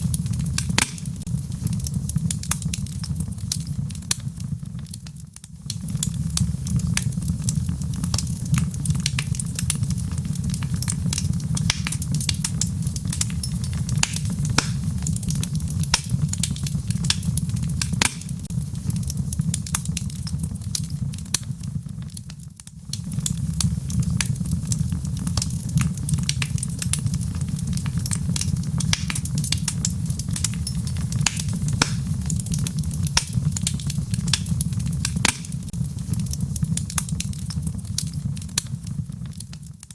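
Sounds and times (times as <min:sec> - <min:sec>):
flames roaring: 0:00.0 - 0:39.9
wood crackling and popping: 0:00.0 - 0:39.9.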